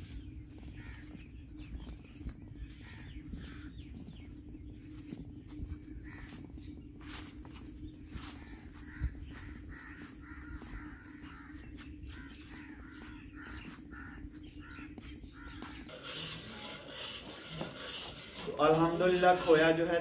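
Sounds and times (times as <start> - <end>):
steady low hum: 0.0 - 20.0
crows cawing: 0.5 - 1.9, 2.6 - 4.3, 5.7 - 7.2, 8.1 - 20.0.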